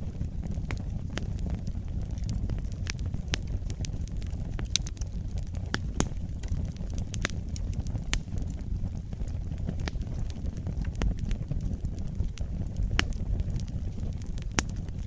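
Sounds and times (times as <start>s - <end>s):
wood fire crackling in fireplace: 0.0s - 15.0s.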